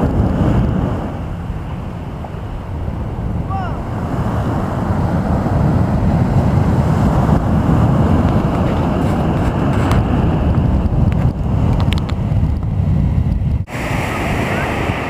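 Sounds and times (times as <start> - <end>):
sea waves washing on shore: 0.0 - 12.5, 13.1 - 15.0
wind buffeting microphone: 0.0 - 15.0.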